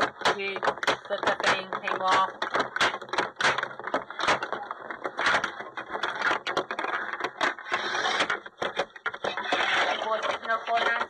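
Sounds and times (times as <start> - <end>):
plastic toys clattering together: 0.0 - 11.0.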